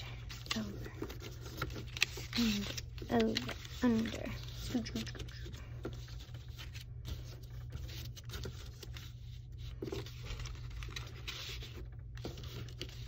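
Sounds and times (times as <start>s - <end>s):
paper rustling and scraping: 0.0s - 13.0s.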